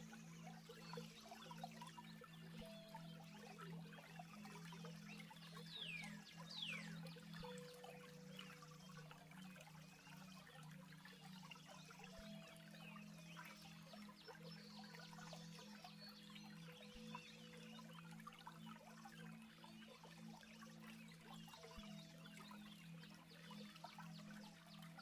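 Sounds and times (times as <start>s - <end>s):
faint flowing stream: 0.0s - 25.0s
small birds chirping: 0.0s - 25.0s
soft low music notes: 0.0s - 25.0s.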